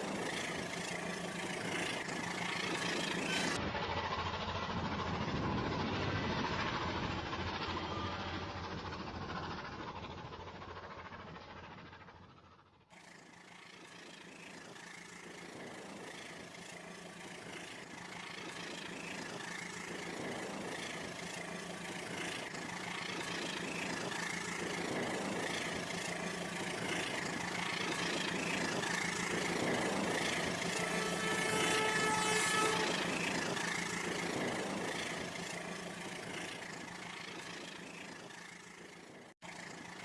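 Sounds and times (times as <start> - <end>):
small motor humming: 0.0 - 40.0.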